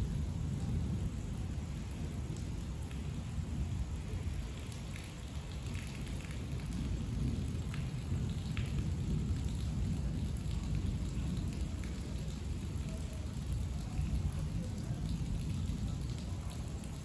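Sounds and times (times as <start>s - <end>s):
heavy rain: 0.0s - 17.0s
rolling thunder rumble: 0.0s - 17.0s.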